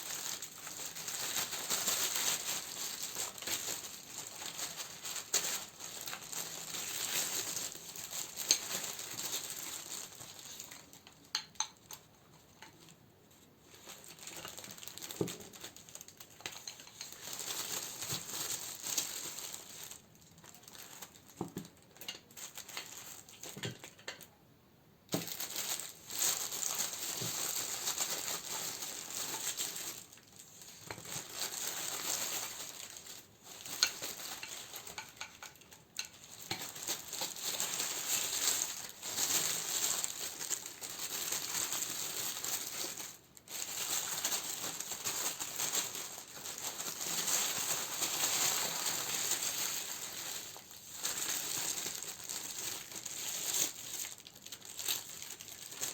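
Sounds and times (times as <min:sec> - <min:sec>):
packaging crinkling: 0:00.0 - 0:13.0, 0:13.6 - 0:24.3, 0:25.1 - 0:55.9.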